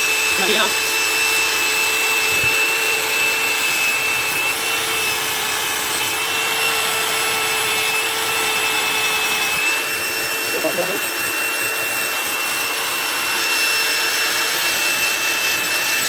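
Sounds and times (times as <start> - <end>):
buffing machine hum and whine: 0.0 - 16.0.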